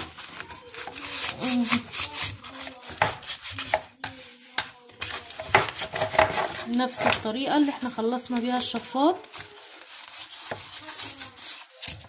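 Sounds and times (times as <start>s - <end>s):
gritty salt scrubbing on plastic: 0.0s - 12.0s.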